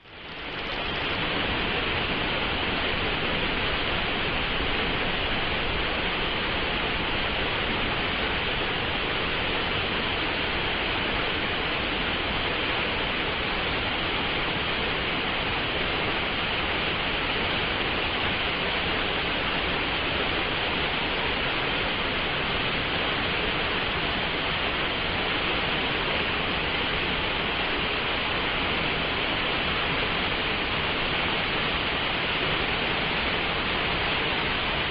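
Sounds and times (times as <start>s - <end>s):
stream water rushing and splashing: 0.2s - 34.9s.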